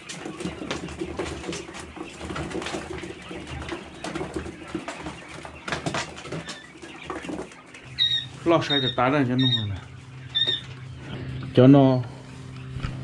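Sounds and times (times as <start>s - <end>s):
quails cooing: 0.0s - 13.0s.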